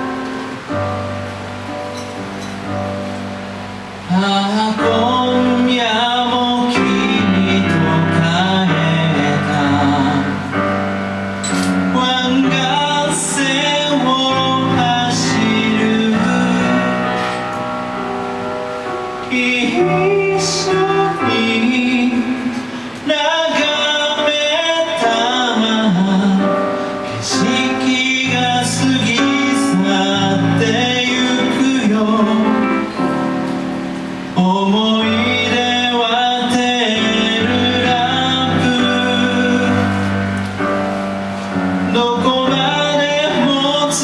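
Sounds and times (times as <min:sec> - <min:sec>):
live pop song singing: 0:04.0 - 0:44.0.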